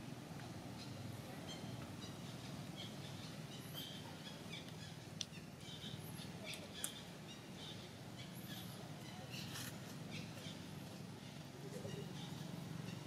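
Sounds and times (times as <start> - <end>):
small birds chirping: 0.7 - 13.0.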